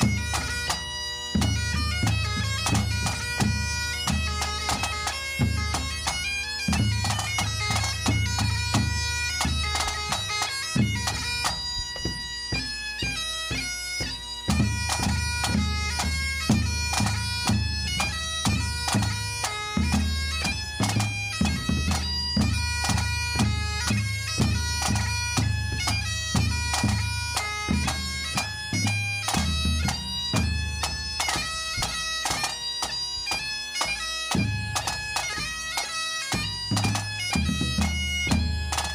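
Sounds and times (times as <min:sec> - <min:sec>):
bagpipes playing a march: 0:00.0 - 0:38.9
drum beating time: 0:00.0 - 0:38.9.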